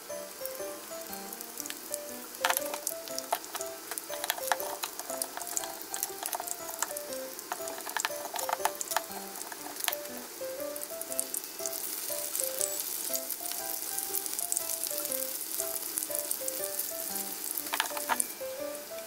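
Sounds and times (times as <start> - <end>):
vegetables frying in oil: 0.0 - 19.0.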